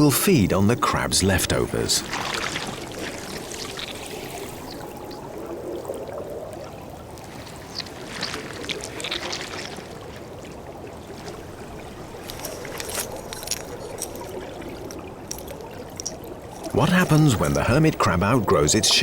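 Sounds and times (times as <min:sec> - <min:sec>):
underwater watery wash: 0:00.0 - 0:19.0
faint underwater clicks: 0:01.4 - 0:10.0, 0:11.2 - 0:18.9.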